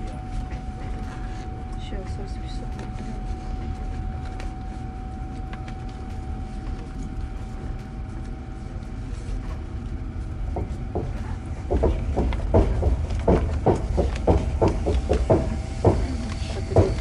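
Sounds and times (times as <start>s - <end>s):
constant whine: 0.0s - 17.0s
train carriage rumble: 0.0s - 17.0s.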